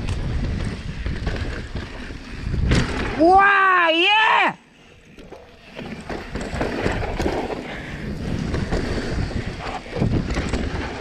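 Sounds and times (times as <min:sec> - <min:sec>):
heavy bike bump: 0:00.0 - 0:03.3, 0:05.2 - 0:11.0
wind buffeting microphone: 0:00.0 - 0:03.4, 0:05.0 - 0:11.0
bike knocks and rattles: 0:00.0 - 0:03.6, 0:05.1 - 0:11.0
bike tyres rumbling over rough ground: 0:00.0 - 0:11.0.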